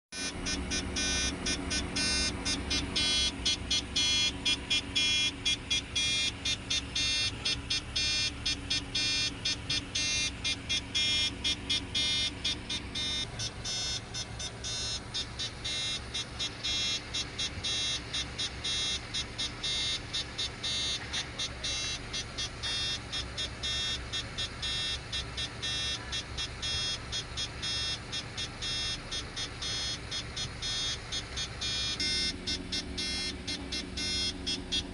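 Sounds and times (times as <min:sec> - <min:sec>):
crane machine running: 0:00.2 - 0:34.9
high-pitched pulsing sound: 0:00.2 - 0:34.9.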